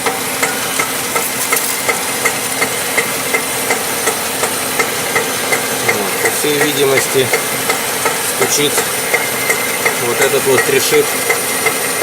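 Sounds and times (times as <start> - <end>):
car engine running: 0.0 - 12.0
rhythmic driveline knocking: 0.0 - 12.0.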